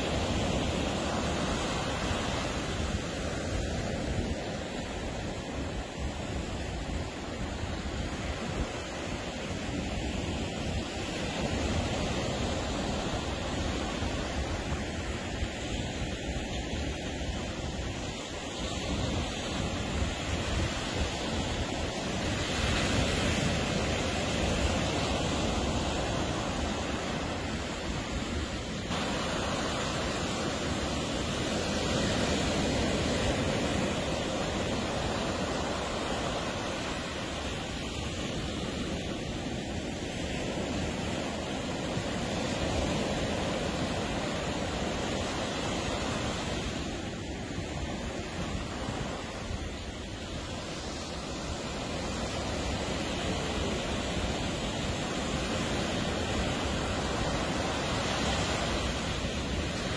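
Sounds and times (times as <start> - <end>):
wind on microphone: 0.0 - 59.9
surf breaking on beach: 10.9 - 59.9.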